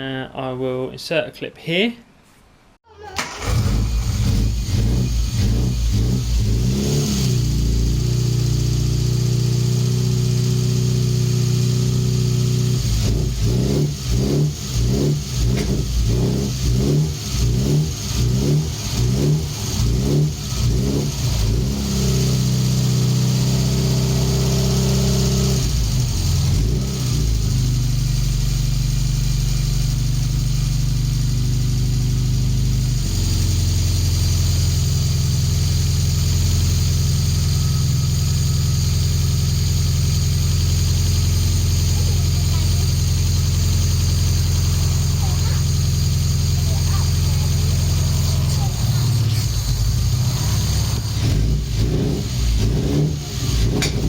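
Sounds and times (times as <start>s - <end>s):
car engine running with throttle blips: 3.2s - 54.0s.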